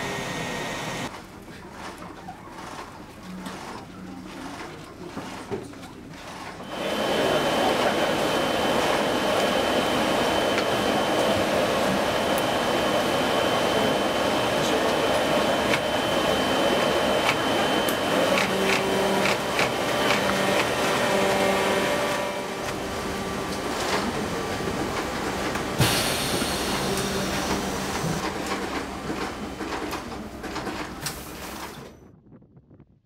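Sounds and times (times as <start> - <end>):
industrial sewing machine running: 0.0 - 1.1, 1.7 - 32.0
workshop machine noise: 0.0 - 32.1.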